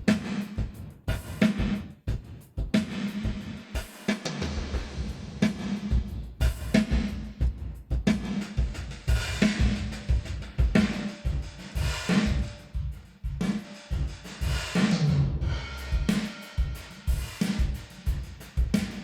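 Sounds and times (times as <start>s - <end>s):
drum loop with reverb: 0.0s - 19.0s.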